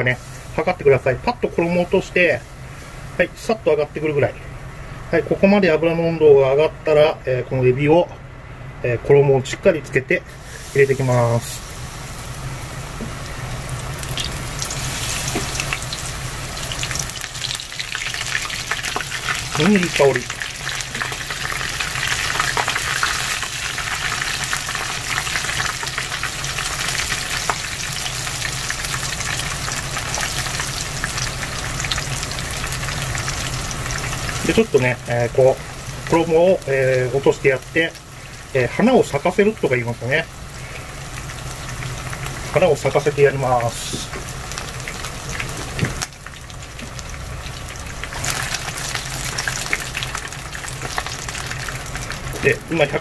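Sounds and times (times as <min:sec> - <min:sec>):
batter deep-frying in oil: 0:00.0 - 0:08.1, 0:09.0 - 0:53.0.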